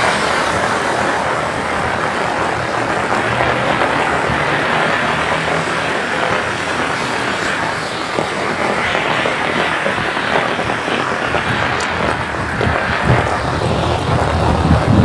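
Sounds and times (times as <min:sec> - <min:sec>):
heavy rain on road: 0:00.0 - 0:15.0.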